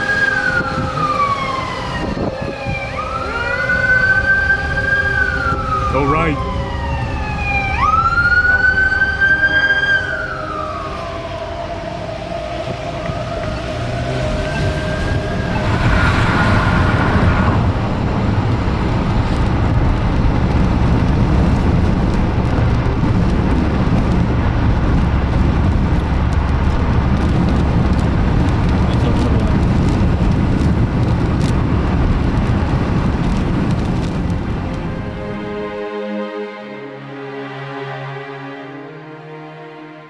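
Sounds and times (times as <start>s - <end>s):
wind and road noise in car: 0.0s - 35.8s.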